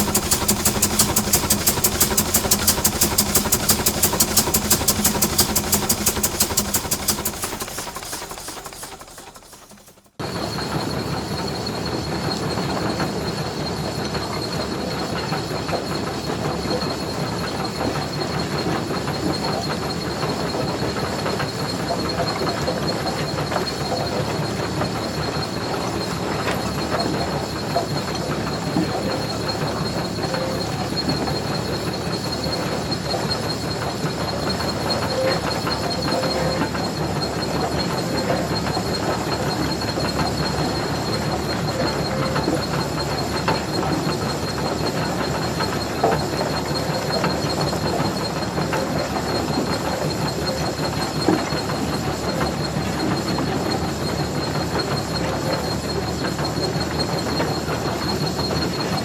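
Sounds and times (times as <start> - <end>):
tractor engine rattling: 0.0 - 11.4, 17.8 - 59.0.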